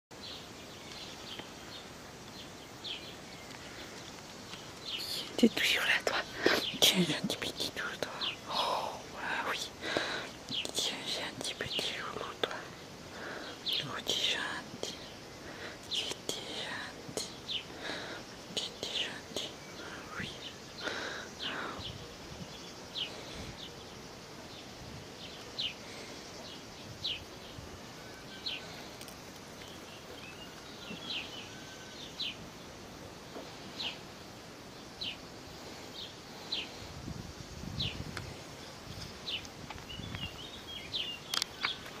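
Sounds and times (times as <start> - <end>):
bird chirping: 0.1 - 32.7, 34.7 - 35.3, 37.7 - 42.0
steady background hiss: 0.1 - 42.0.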